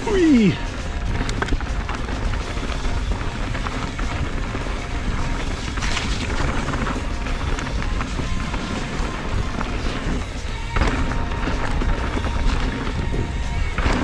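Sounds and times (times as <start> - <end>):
bike clicks and rattles: 0.0 - 14.0
tyre noise on dirt: 0.0 - 14.0
wind rumble on microphone: 0.0 - 14.0.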